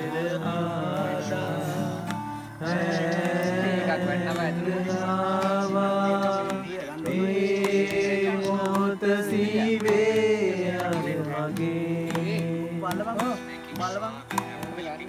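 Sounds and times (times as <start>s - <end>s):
chant-like singing: 0.0s - 14.2s.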